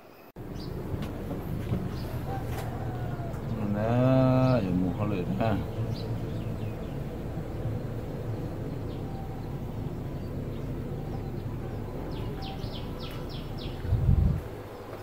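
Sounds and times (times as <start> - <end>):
low rumbling: 0.4 - 15.0.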